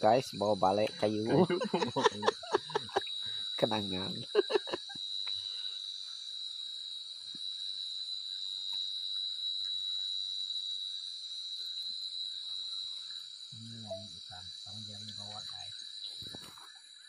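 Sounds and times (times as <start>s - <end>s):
night insects droning: 0.0s - 17.0s.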